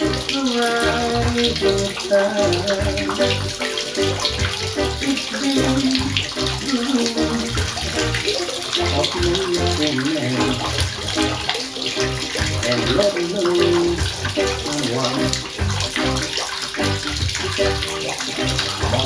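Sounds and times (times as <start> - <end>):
pulsing bass: 0.0 - 5.0, 5.6 - 6.6, 7.2 - 11.5, 12.1 - 13.0, 13.6 - 19.0
fountain water splashing: 0.0 - 19.0
melody of held notes: 0.0 - 19.0.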